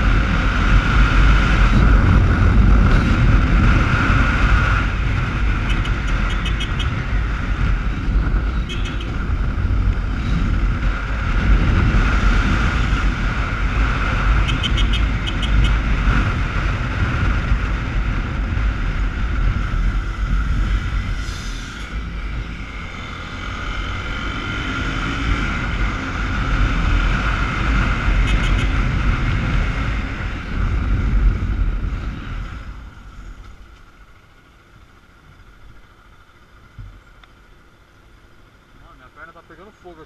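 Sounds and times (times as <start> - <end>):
wind buffeting microphone: 0.0 - 32.9
motorcycle engine running: 0.0 - 40.0.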